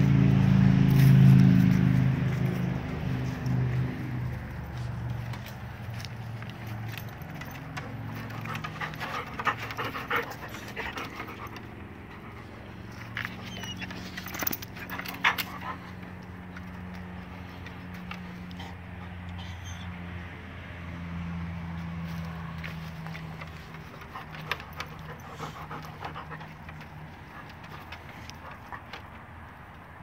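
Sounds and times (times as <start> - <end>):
dogs panting: 1.7 - 19.9, 22.7 - 30.0.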